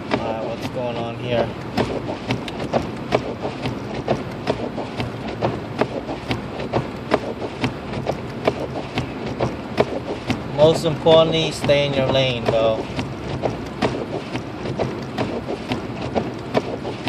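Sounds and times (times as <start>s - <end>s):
road and engine noise: 0.0s - 17.0s
turn signal ticking: 0.0s - 17.0s.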